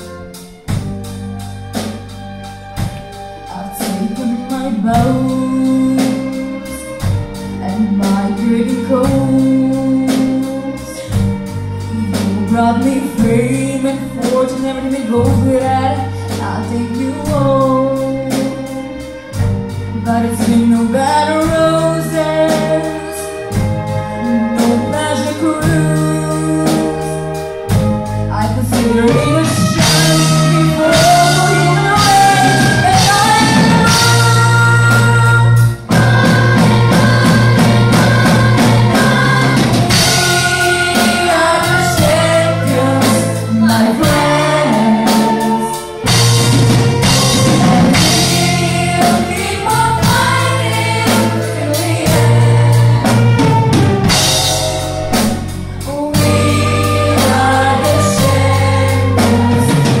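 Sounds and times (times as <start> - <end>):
bass notes and steady beat: 0.0 - 60.0
string orchestra: 0.0 - 60.0
woman singing: 3.4 - 7.0, 7.6 - 11.2, 11.9 - 18.8, 19.9 - 46.2, 47.0 - 54.2, 55.9 - 60.0.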